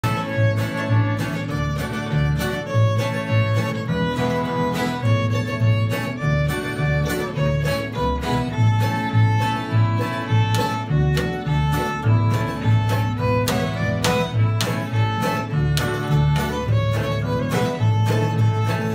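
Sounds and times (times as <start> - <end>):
fiddle melody: 0.0 - 18.9
plucked upright bass: 0.0 - 18.9
strummed guitar: 0.0 - 18.9
strummed mandolin: 0.0 - 18.9.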